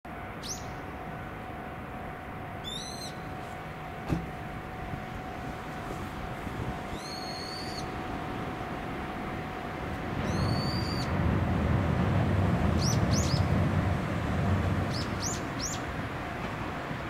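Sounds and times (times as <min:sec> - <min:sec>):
low outdoor rumble: 0:00.1 - 0:17.0.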